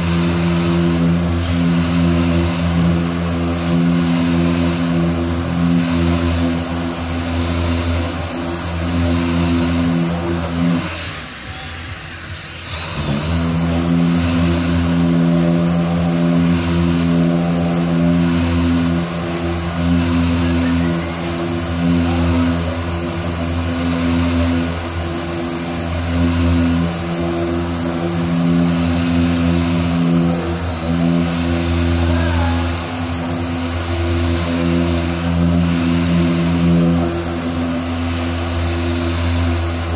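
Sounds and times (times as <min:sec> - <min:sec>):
machine motor humming: 0:00.0 - 0:39.9.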